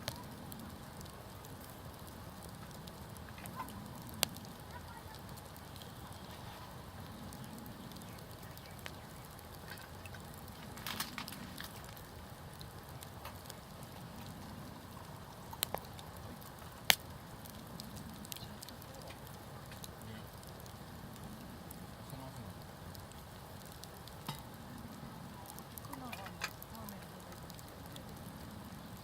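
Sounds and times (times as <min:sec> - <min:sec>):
campfire crackling: 0:00.0 - 0:29.0
sharp pops of burning wood: 0:00.0 - 0:29.0.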